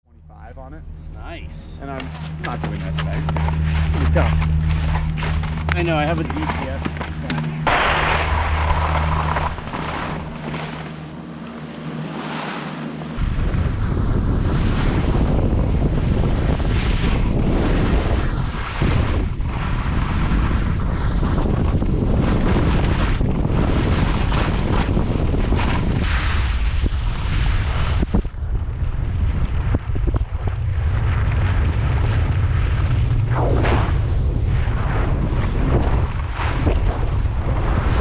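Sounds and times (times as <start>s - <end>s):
wind buffeting microphone: 0.3s - 11.3s, 13.1s - 38.0s.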